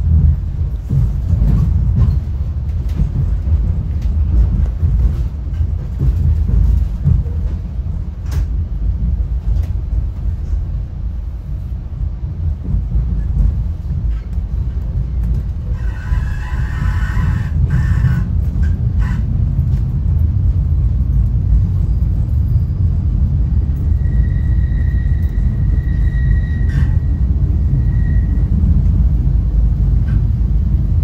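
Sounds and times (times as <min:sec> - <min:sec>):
train car rumbling along track: 0:00.0 - 0:31.0.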